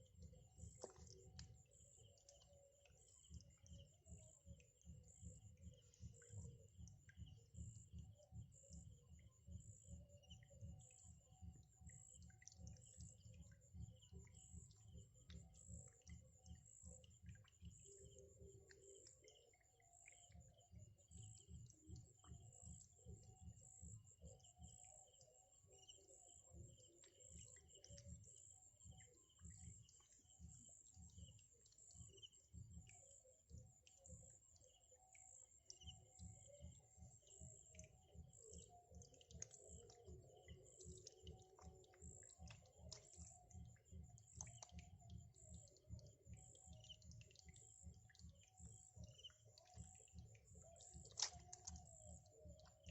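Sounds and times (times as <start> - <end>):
faint bird calls and chirps: 0.0 - 52.9.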